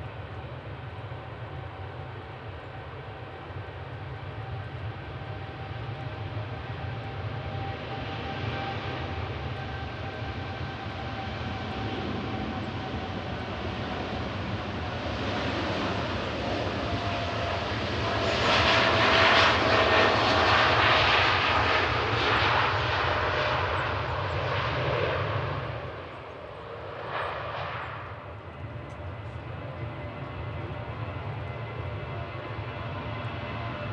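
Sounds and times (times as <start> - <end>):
jet airliner engines whining: 0.0 - 33.9.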